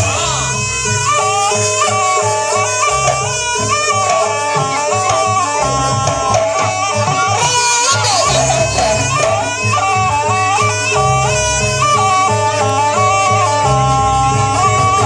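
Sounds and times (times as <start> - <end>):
low drums and gongs: 0.0 - 15.0
reedy wind instrument melody: 0.0 - 15.0.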